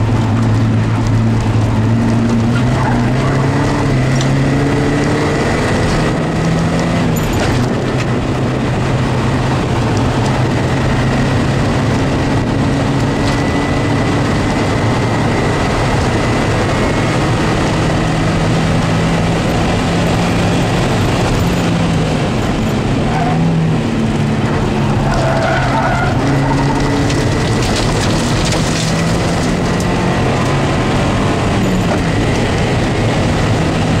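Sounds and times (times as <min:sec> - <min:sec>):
car engine under hard driving: 0:00.0 - 0:34.0
road and wind noise: 0:00.0 - 0:34.0.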